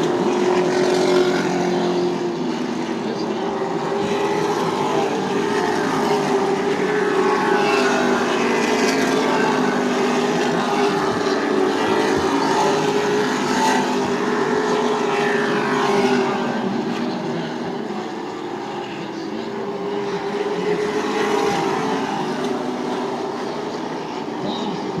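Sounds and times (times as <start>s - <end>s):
race truck engines droning: 0.0s - 25.0s.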